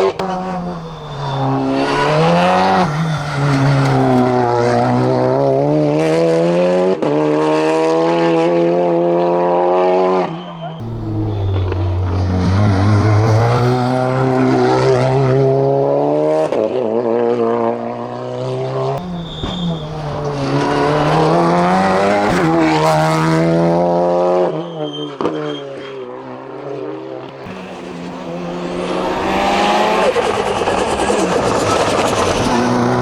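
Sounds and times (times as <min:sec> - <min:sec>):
racing car engine at full throttle: 0:00.0 - 0:24.6, 0:26.2 - 0:33.0.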